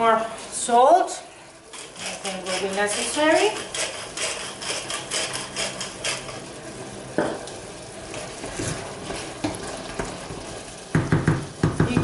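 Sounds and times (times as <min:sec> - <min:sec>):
stew simmering: 0:00.4 - 0:12.0.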